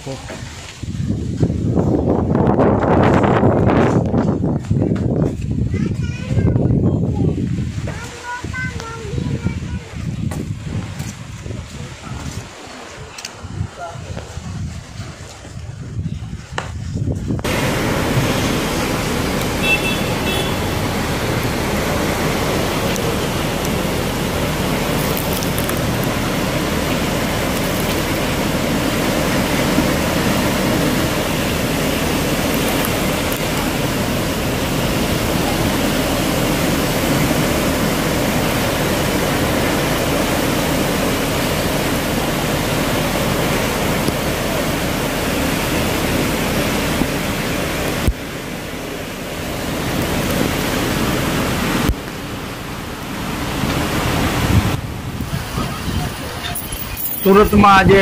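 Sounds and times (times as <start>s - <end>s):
heavy rain pouring in wind: 0.0s - 58.0s.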